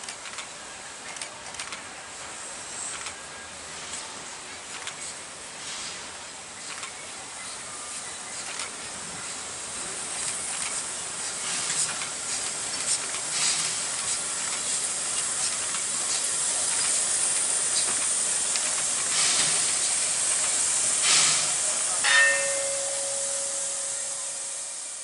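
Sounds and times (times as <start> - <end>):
steam locomotive hissing: 2.1 - 25.0.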